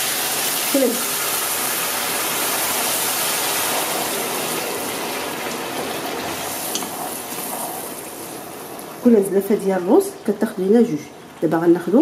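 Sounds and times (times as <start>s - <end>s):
water sizzling in frying pan: 0.0s - 10.1s.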